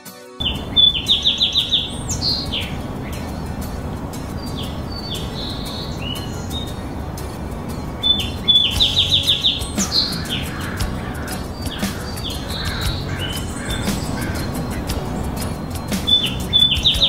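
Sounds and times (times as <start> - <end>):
small songbird chirping: 0.4 - 17.0.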